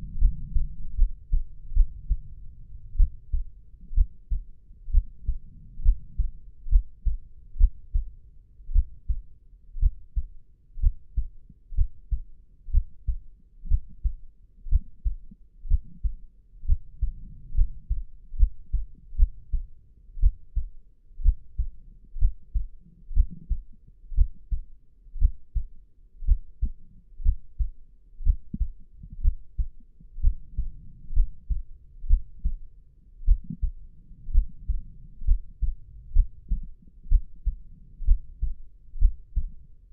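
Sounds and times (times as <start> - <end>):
human heartbeat: 0.0 - 39.9.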